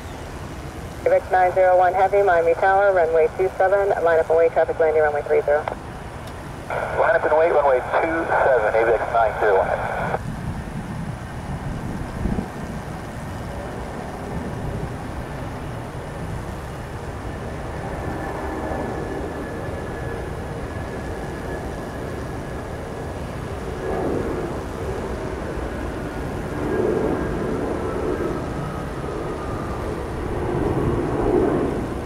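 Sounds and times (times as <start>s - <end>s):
jet engines idling: 0.0s - 10.2s, 12.9s - 32.0s.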